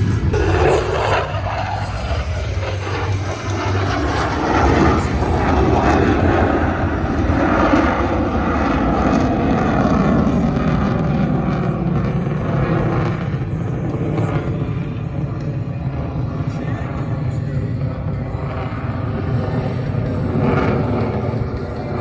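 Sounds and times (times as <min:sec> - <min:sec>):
airplane engine roar: 0:00.0 - 0:22.0.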